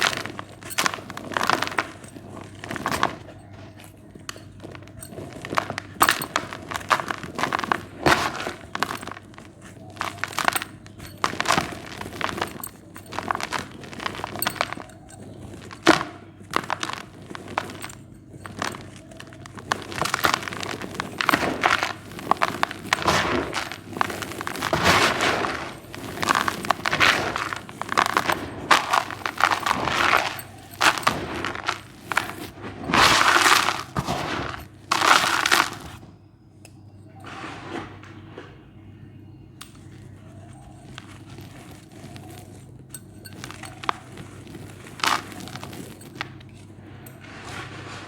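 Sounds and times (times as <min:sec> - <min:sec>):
dry cement crumbling: 0:00.0 - 0:48.0.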